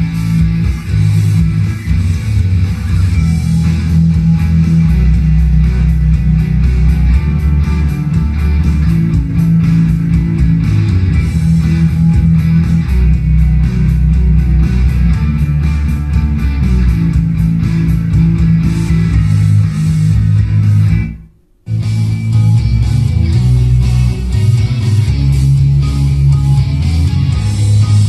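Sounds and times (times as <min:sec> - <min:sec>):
guitar music with heavy bass: 0:00.0 - 0:28.0.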